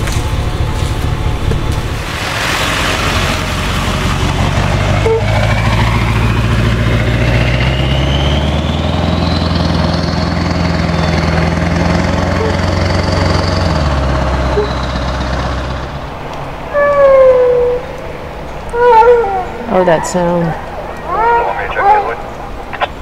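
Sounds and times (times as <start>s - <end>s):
vehicle engine speeding up: 0.0s - 23.0s.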